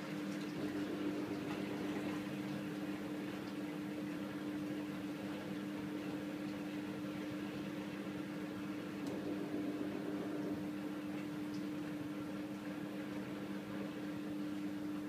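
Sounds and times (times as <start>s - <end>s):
washing machine drum spinning: 0.0s - 15.0s.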